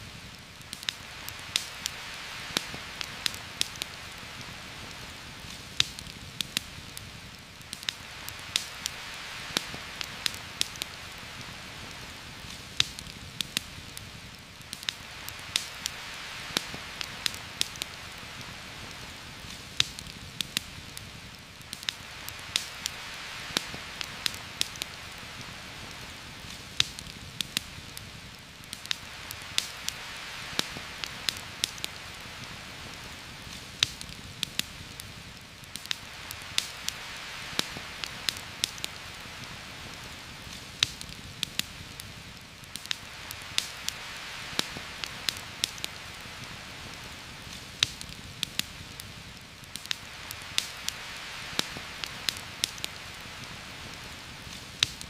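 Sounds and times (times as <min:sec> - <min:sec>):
campfire crackling and popping: 0:00.0 - 0:55.0
heavy rain falling: 0:00.0 - 0:55.0.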